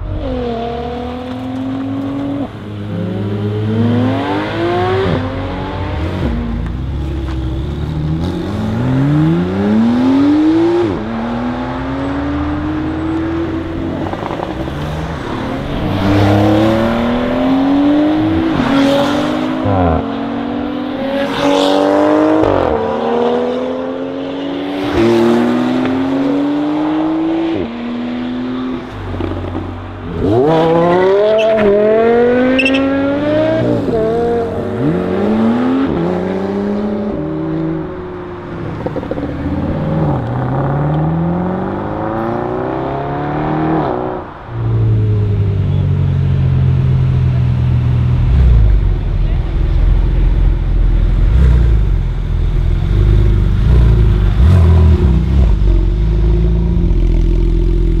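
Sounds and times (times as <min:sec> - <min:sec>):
car engines accelerating hard: 0:00.0 - 0:58.0
cars passing by: 0:00.0 - 0:58.0.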